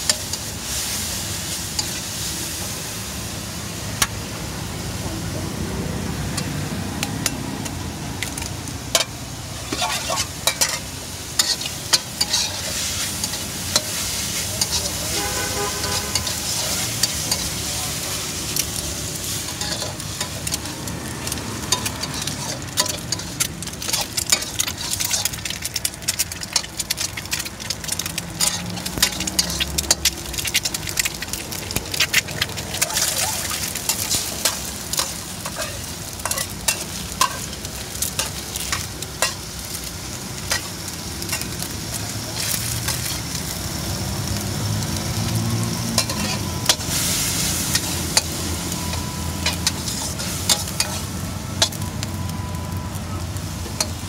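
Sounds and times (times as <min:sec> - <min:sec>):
metal spatula scraping wok: 0:00.0 - 0:02.6, 0:08.2 - 0:43.6, 0:45.2 - 0:52.0
food sizzling in a wok: 0:00.0 - 0:54.0.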